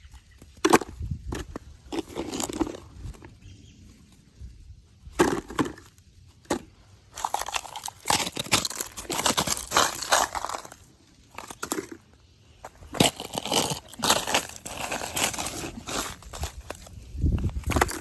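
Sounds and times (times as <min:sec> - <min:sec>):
snow and ice crunching: 0:00.4 - 0:18.0.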